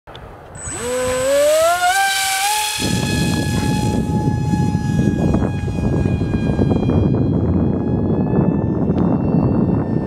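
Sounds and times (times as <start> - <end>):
electric fan whine rising: 0.5 - 10.0.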